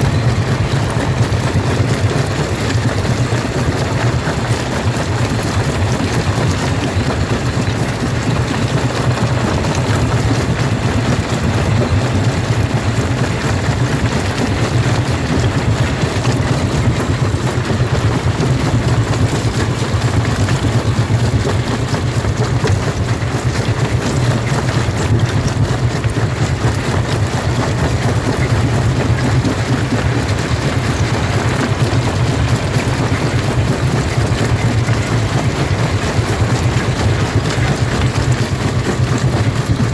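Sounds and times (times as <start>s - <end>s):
rock crusher running: 0.0s - 39.9s.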